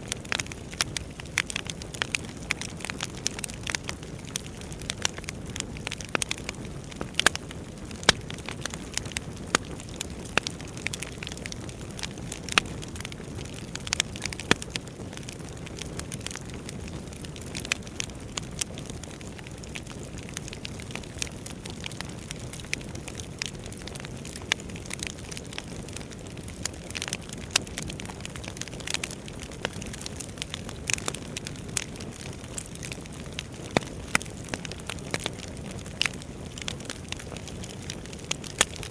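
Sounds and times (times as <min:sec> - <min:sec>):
fire popping and snapping: 0:00.0 - 0:38.9
hiss of burning logs: 0:00.0 - 0:38.9.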